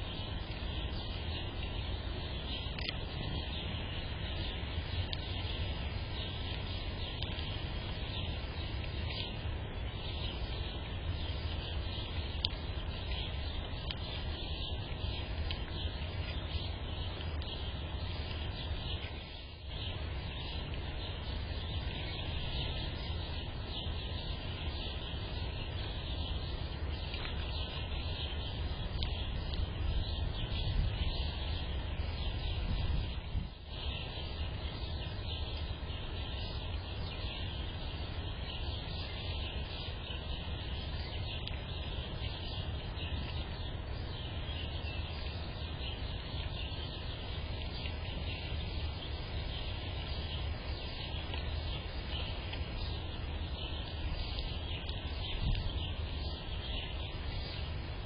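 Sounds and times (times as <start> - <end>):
faint high hiss: 0.0 - 58.0.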